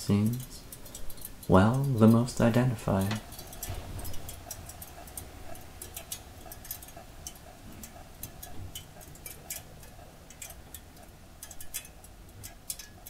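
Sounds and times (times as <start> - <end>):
soft ticking: 0.0 - 13.0.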